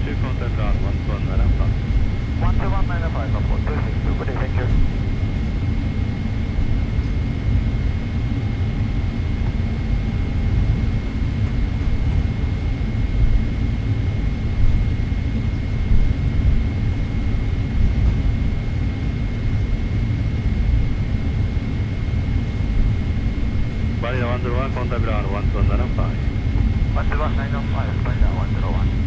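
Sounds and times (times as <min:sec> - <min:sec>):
jet cabin rumble: 0:00.0 - 0:29.0.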